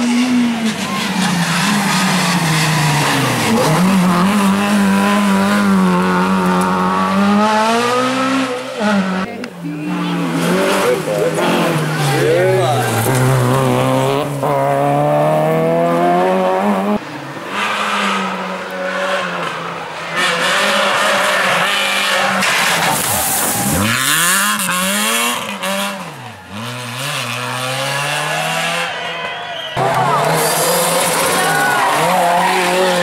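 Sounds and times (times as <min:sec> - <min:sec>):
rally car engines at full throttle: 0:00.0 - 0:33.0.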